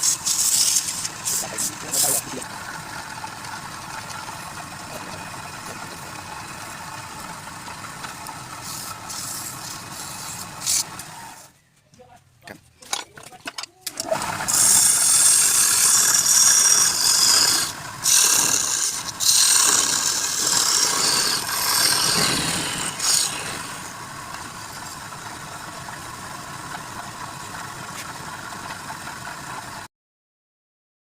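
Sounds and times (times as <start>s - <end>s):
lathe tool scraping spinning wood: 0.0s - 11.5s, 13.9s - 29.7s
wood lathe running: 0.0s - 11.5s, 13.9s - 29.9s.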